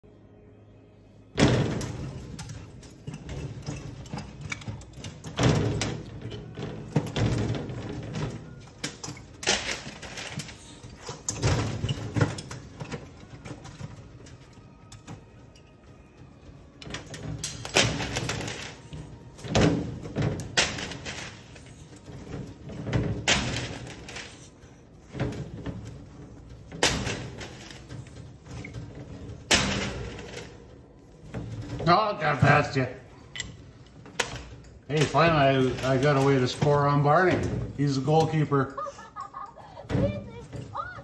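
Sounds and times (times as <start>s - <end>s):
thumps and rattles in a cage: 1.3s - 41.0s.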